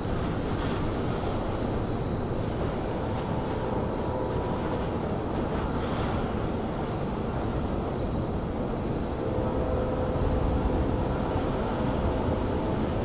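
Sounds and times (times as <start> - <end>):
low rumble of trains and machinery: 0.0 - 13.0.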